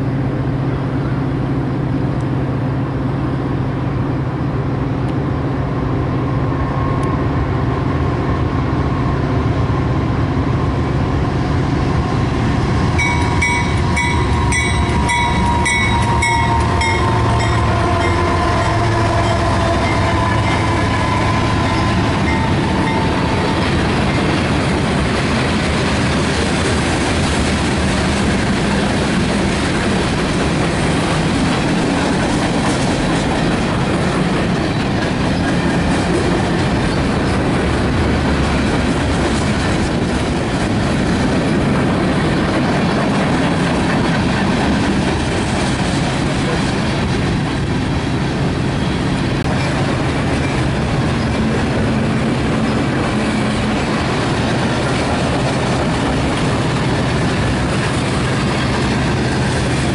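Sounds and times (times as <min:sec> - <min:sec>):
held tonal train sound: 0:00.0 - 0:59.9
train rumbling past: 0:00.0 - 0:59.9.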